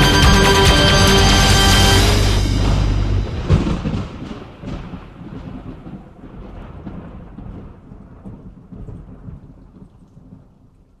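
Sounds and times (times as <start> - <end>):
rolling thunder: 0.9 - 10.7.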